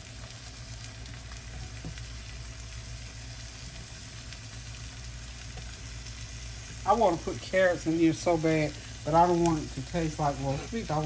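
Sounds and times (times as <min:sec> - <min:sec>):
meat and onions sizzling: 0:00.0 - 0:11.0.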